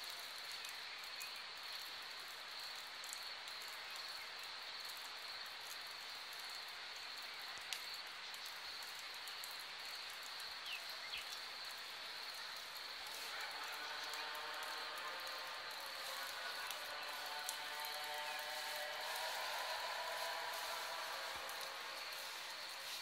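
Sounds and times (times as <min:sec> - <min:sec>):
crickets chirring: 0:00.2 - 0:23.0.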